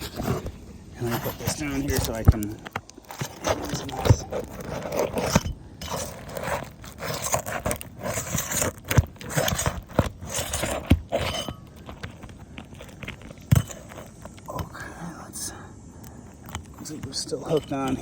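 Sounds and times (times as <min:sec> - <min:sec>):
roof shingle scraping and grating: 0:00.0 - 0:14.6, 0:16.2 - 0:18.0.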